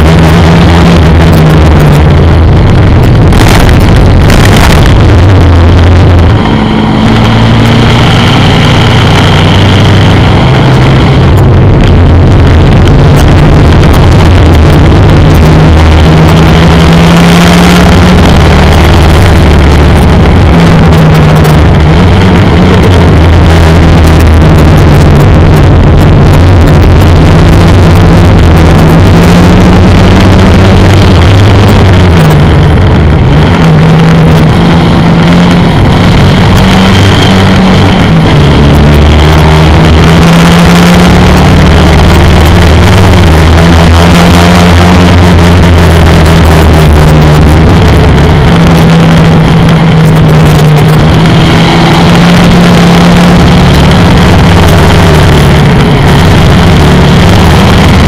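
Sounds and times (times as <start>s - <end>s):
racing car engine running hard: 0.0s - 58.0s.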